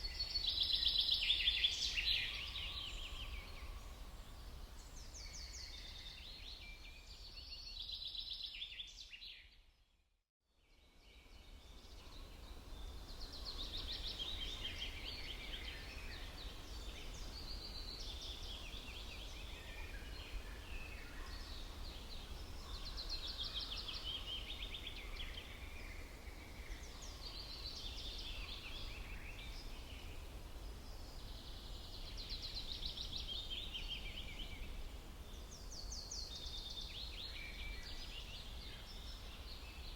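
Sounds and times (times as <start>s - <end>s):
songbirds singing: 0.0s - 9.6s, 10.7s - 39.9s.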